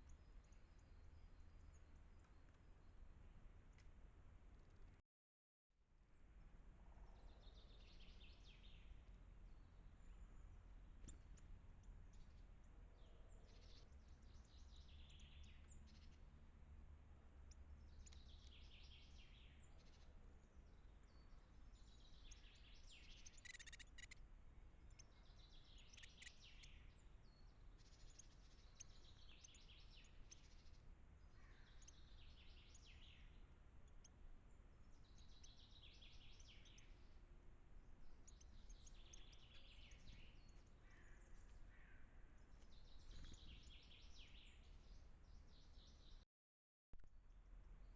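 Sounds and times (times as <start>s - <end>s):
low steady hum: 0.0s - 5.0s, 5.9s - 46.0s, 47.0s - 47.9s
songbird song: 0.0s - 5.0s, 5.7s - 46.3s, 46.9s - 47.9s.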